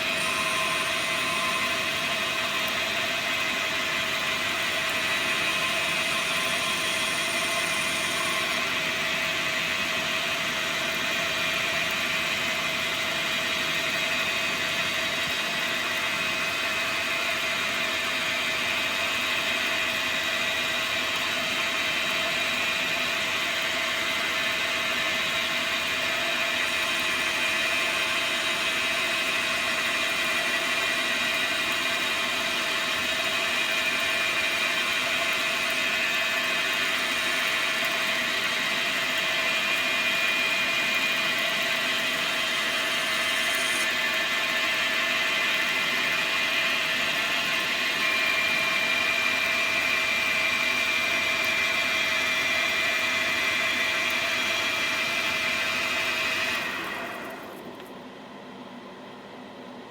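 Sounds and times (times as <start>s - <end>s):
lathe motor whining: 0.0s - 57.9s.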